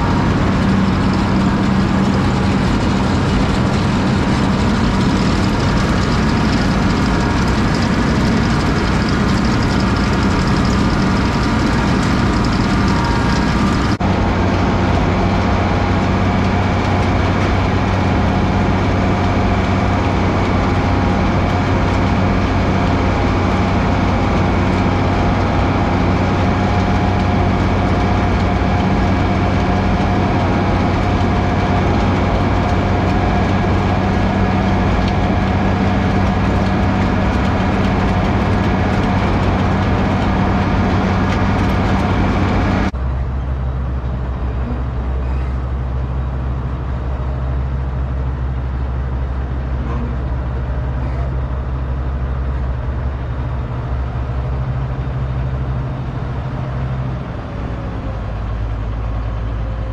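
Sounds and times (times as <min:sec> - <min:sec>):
tractor engine and machinery: 0:00.0 - 0:59.9.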